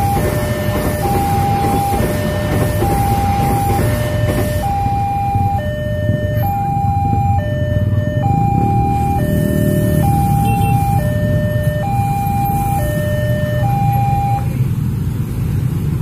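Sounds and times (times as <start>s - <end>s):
level crossing two-tone alarm: 0.0s - 14.5s.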